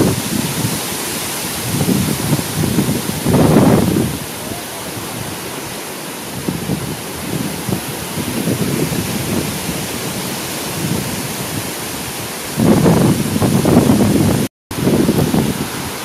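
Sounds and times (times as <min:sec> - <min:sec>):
forest fire roaring: 0:00.0 - 0:16.0.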